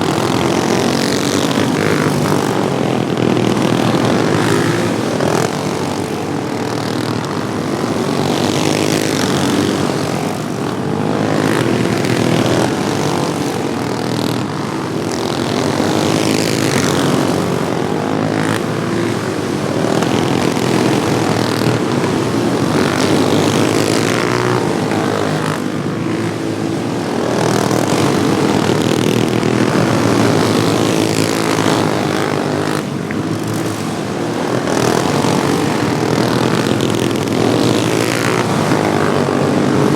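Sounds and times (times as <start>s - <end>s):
racing lawnmower engines buzzing: 0.0s - 39.9s.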